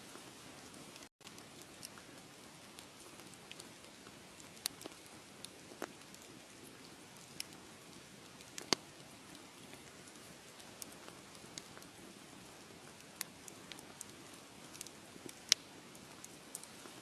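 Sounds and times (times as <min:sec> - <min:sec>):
fire crackling in a fireplace: 0:00.0 - 0:17.0.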